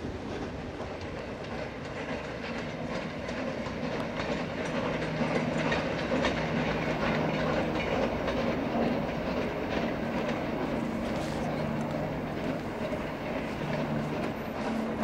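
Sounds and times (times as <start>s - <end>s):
goods train rumbling: 0.0s - 15.0s
wheels clicking over rail joints: 0.0s - 15.0s.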